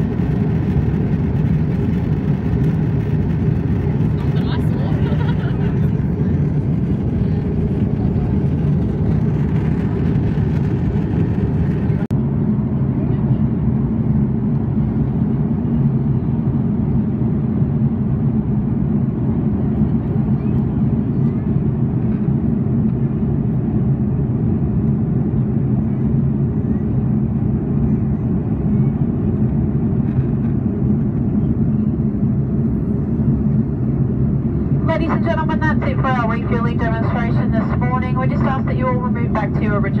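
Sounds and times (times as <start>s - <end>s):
aircraft cabin drone: 0.0s - 40.0s.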